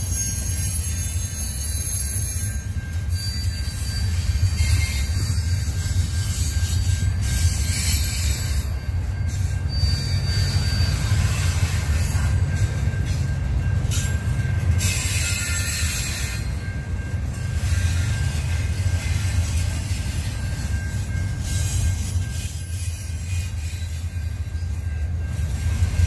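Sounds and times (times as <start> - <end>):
freight train rolling past: 0.0 - 26.0
train wheel squeal: 0.0 - 26.0.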